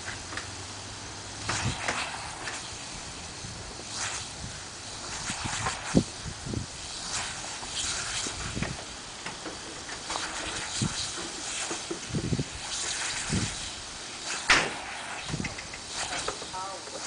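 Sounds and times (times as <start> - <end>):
lawn sprinkler hissing: 0.0 - 17.0.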